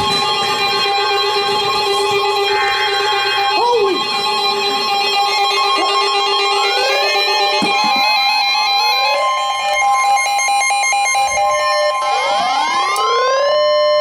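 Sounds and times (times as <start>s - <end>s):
music with rising sweeping tones: 0.0s - 14.0s
two-note alarm tone: 0.0s - 14.0s.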